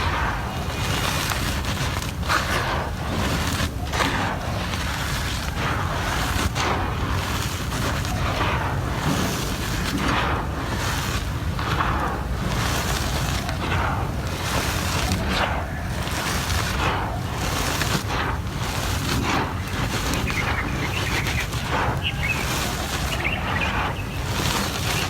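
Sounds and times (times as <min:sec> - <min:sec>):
cement crumbling and crunching: 0:00.0 - 0:25.0
steady low rumble: 0:00.0 - 0:25.0.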